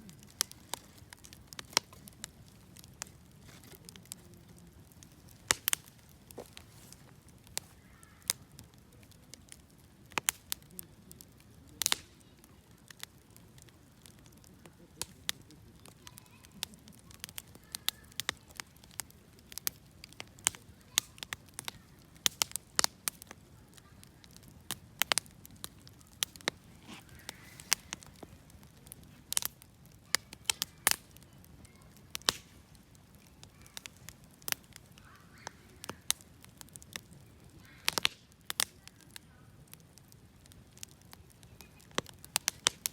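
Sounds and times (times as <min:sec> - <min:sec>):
sharp pops and snaps: 0:00.0 - 0:39.0, 0:39.7 - 0:42.9
soft rumble of burning: 0:00.0 - 0:42.9
wood fire crackling: 0:00.0 - 0:42.9.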